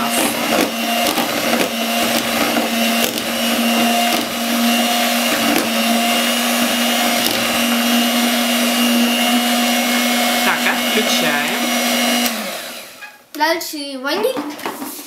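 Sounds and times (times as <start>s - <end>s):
electric hand mixer whisking: 0.0s - 13.1s.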